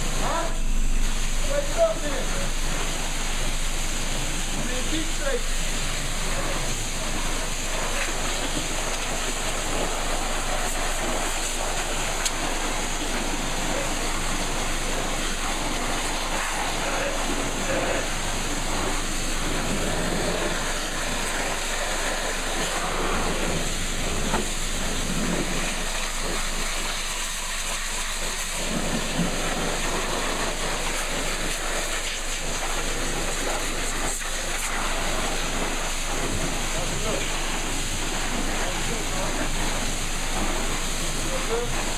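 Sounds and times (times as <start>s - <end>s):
pressure washer spraying water: 0.0s - 41.9s.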